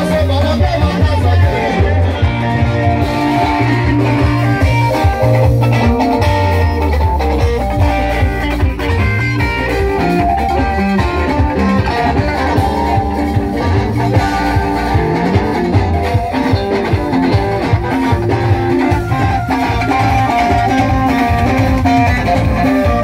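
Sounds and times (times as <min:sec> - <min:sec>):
bass guitar: 0:00.0 - 0:23.0
drums: 0:00.0 - 0:23.0
electric guitars picking melodies: 0:00.0 - 0:23.0.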